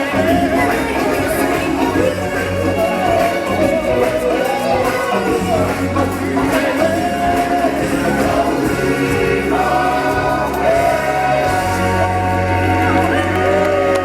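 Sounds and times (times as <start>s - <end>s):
choir singing held notes: 0.0s - 14.0s
steady bass line: 0.0s - 14.0s.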